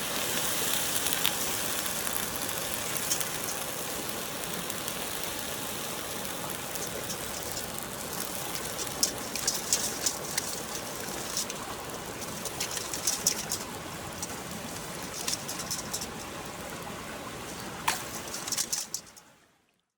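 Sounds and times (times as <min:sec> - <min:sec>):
campfire hiss: 0:00.0 - 0:19.3
campfire crackling and popping: 0:00.1 - 0:19.2.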